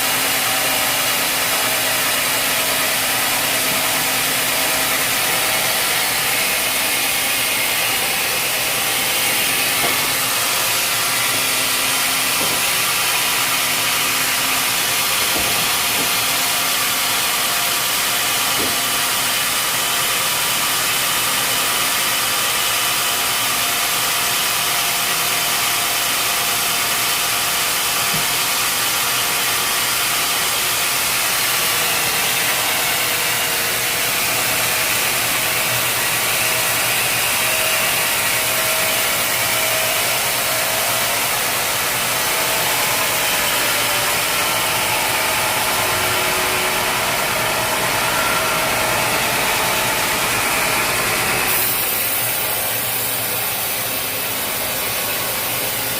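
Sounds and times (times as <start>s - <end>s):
sawmill machinery drone: 0.0s - 55.9s.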